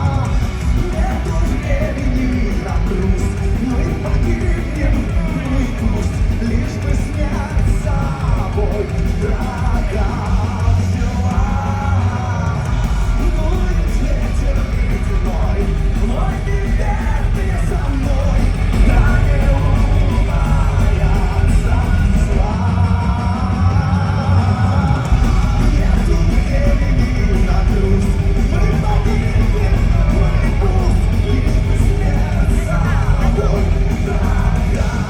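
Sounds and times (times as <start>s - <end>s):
heavy rock band playing: 0.0s - 35.0s.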